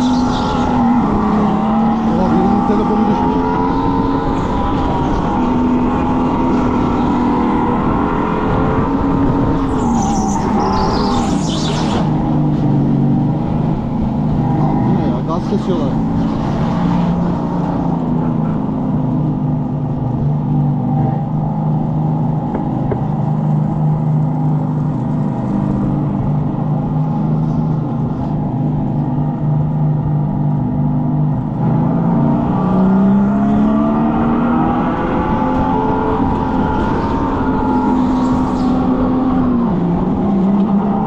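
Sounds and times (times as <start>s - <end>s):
go-kart simulated engine hum: 0.0s - 41.0s.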